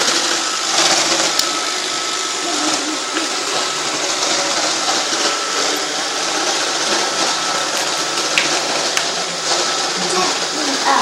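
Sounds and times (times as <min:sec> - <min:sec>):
robot vacuum running: 0:00.0 - 0:11.0.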